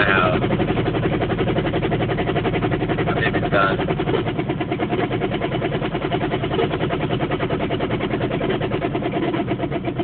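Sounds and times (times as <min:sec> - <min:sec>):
car engine pulsing under strain: 0:00.0 - 0:10.0.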